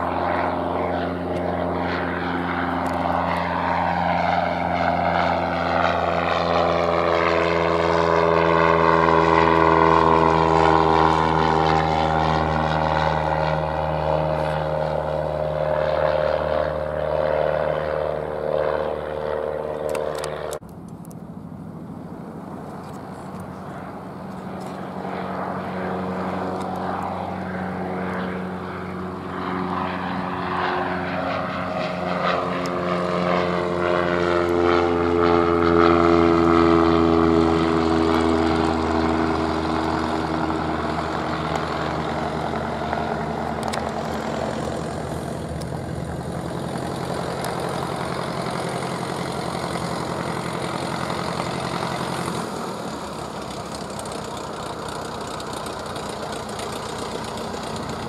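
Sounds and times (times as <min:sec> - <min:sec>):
propeller plane flying past: 0:00.0 - 0:58.0.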